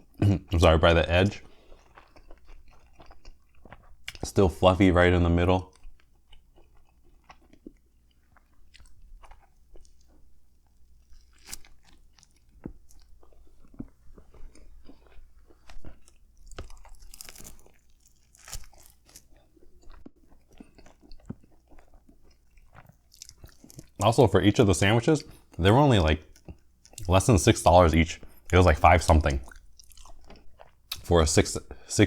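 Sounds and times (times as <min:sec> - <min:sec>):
person chewing sandwich: 0:00.0 - 0:32.0.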